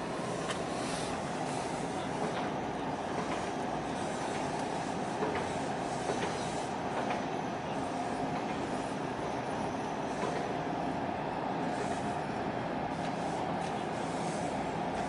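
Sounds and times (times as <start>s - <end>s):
ship engine rumble: 0.0s - 15.0s.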